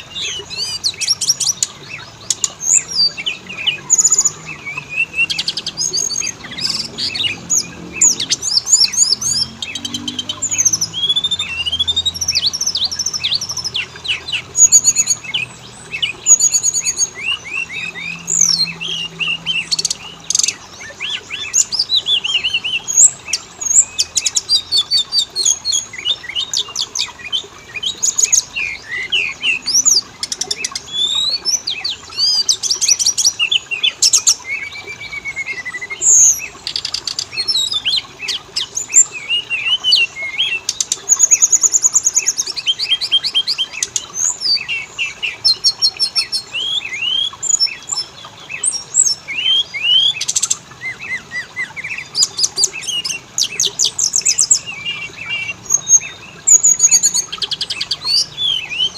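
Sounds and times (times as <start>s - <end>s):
bird singing varied song: 0.0s - 58.9s.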